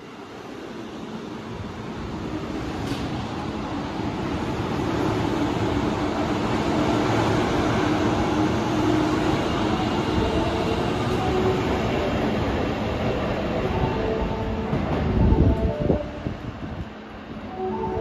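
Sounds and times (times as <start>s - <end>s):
subway train passing: 0.0s - 18.0s.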